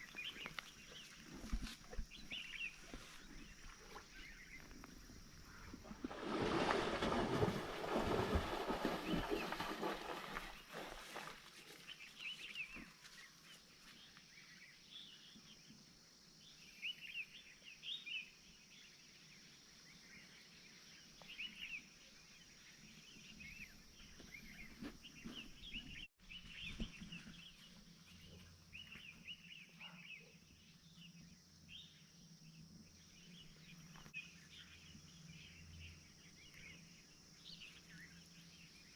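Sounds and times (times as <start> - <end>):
small birds chirping: 0.0 - 5.8, 8.6 - 38.9.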